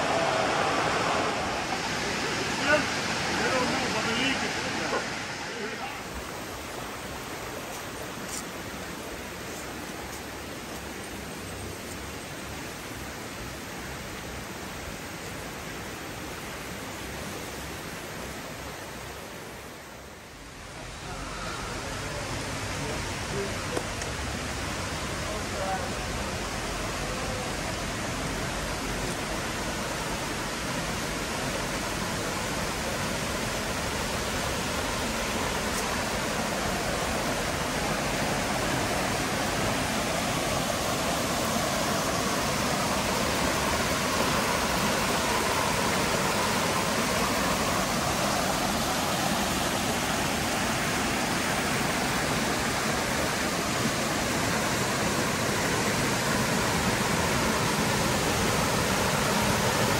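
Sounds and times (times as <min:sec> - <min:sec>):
water rushing and flowing: 0:00.0 - 0:59.9.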